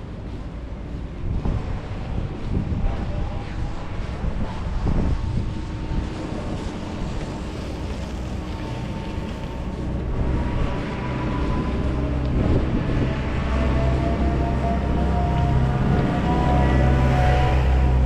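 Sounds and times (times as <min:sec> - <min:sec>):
low engine rumble: 0:00.0 - 0:18.0
wind buffeting microphone: 0:00.0 - 0:18.0.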